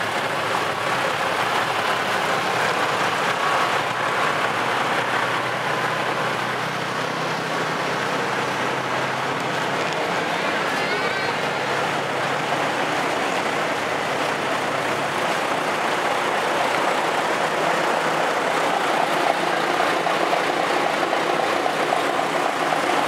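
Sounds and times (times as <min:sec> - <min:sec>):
vehicle engines running: 0:00.0 - 0:23.0.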